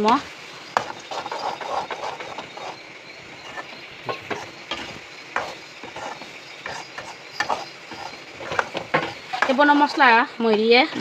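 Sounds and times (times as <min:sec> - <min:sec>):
metal spoon scraping pan: 0:00.6 - 0:11.0.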